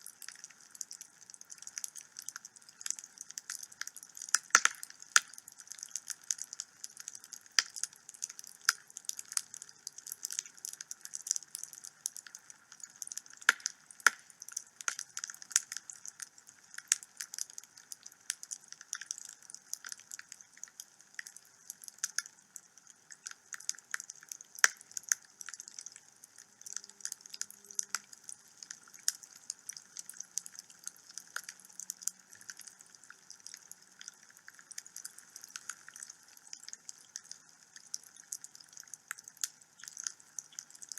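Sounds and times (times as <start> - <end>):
wood fire crackling and popping: 0.1 - 40.9.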